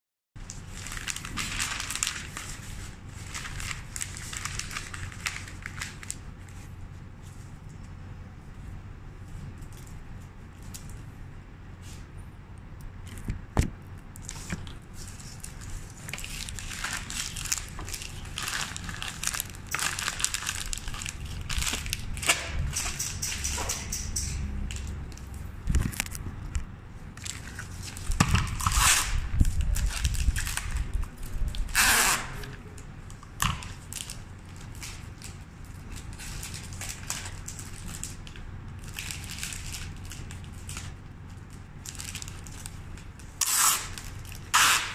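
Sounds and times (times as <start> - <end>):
wrapping paper rustling and crinkling: 0.4 - 7.9, 14.2 - 26.2, 27.1 - 44.9.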